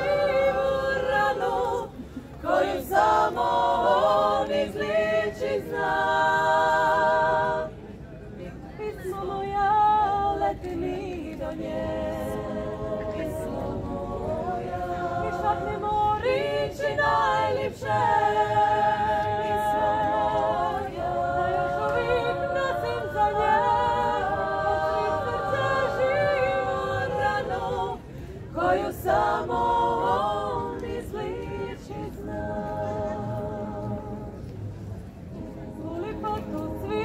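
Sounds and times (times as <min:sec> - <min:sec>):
women singing a cappella: 0:00.0 - 0:37.0.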